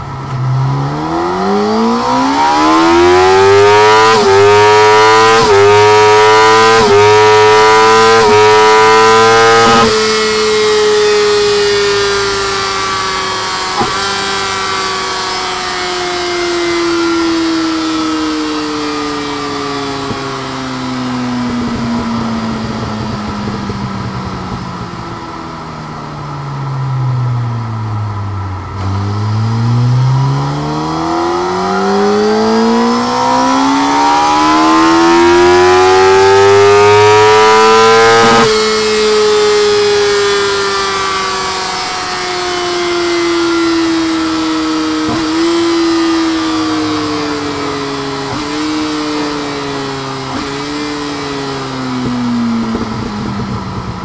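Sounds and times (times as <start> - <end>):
motorcycle engine revving on a dyno: 0.0 - 25.8, 26.6 - 54.0.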